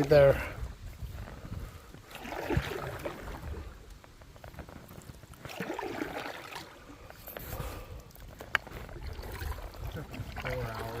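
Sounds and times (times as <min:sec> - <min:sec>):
paddles splashing in water: 0:01.7 - 0:11.0.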